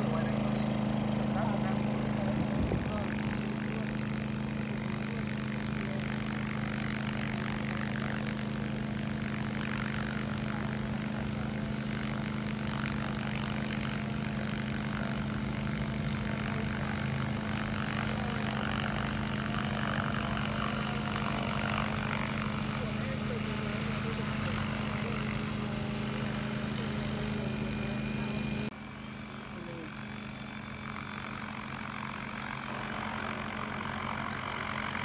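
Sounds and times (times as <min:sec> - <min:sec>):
drone propellers humming: 0:00.0 - 0:35.0.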